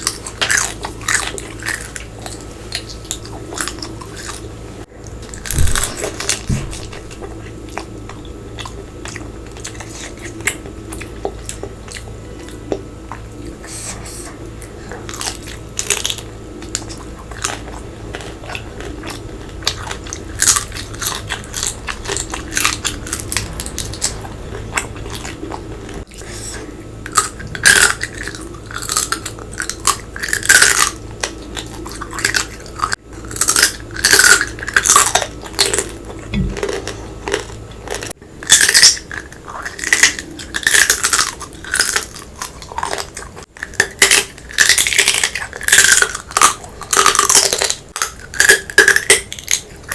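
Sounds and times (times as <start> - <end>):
biting crunchy food: 0.0 - 49.9
chewing: 0.0 - 49.9.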